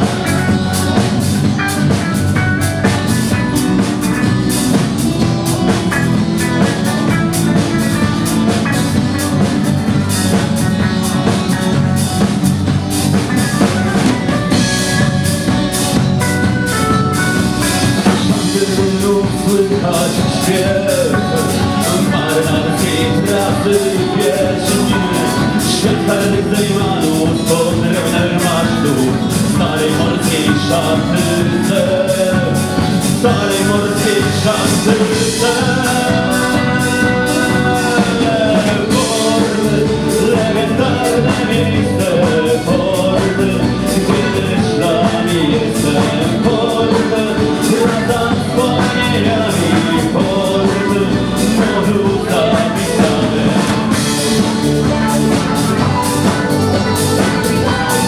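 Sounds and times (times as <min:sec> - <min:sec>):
acoustic guitar: 0:00.0 - 0:58.0
drum kit: 0:00.0 - 0:58.0
electric bass guitar: 0:00.0 - 0:58.0.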